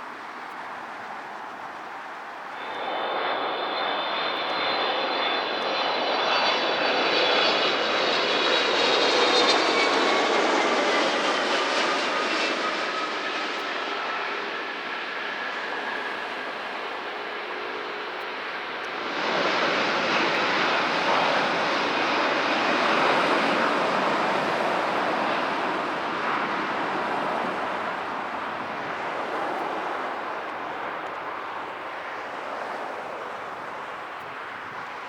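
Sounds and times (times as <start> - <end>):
jet engines roaring: 0.1 - 35.0.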